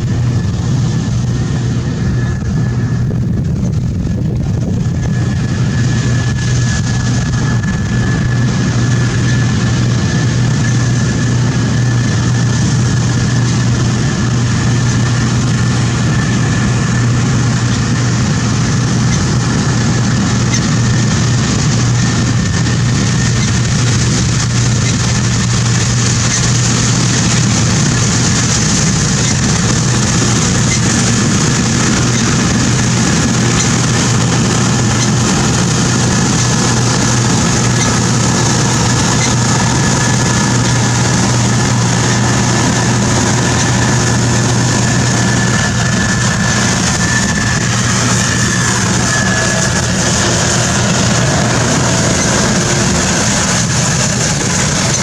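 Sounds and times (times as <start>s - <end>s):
combine engine hum: 0.0s - 55.0s
high whine: 0.0s - 55.0s.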